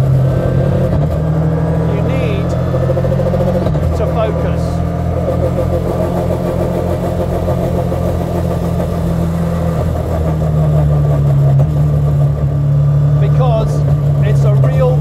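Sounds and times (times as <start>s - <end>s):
car engine at steady revs: 0.0s - 15.0s.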